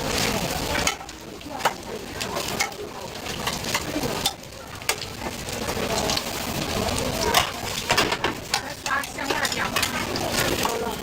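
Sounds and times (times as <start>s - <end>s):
cooking utensils clicking: 0.6s - 11.0s.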